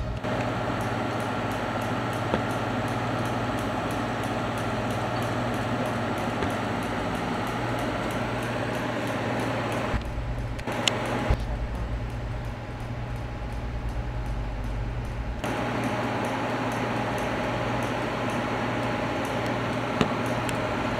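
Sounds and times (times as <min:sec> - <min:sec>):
freight train wheels rumbling: 0:00.0 - 0:20.9.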